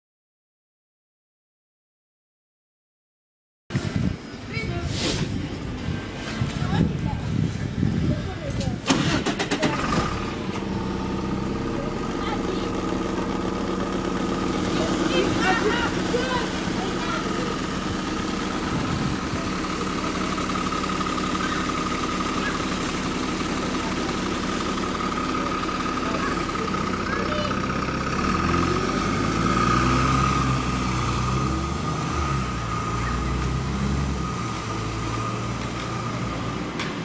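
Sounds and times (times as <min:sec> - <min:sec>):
bus diesel engine: 0:03.7 - 0:37.0.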